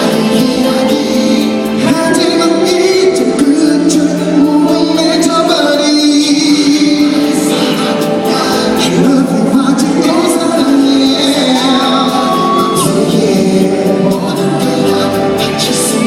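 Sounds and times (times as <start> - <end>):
man singing pop song: 0.0 - 16.0
pop backing music: 0.0 - 16.0.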